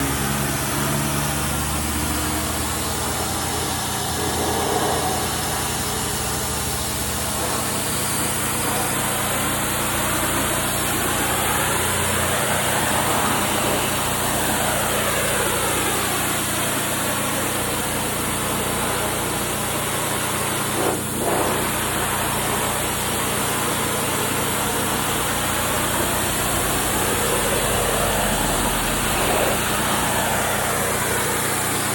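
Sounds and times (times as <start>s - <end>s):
high-pressure water spray hissing: 0.0s - 31.9s
pressure washer engine humming: 0.0s - 31.9s.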